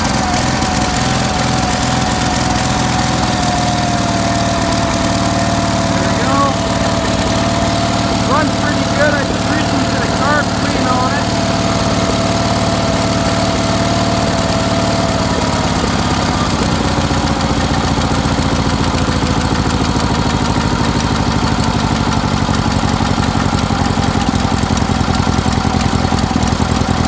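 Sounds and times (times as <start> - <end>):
garden tractor engine running: 0.0 - 27.0.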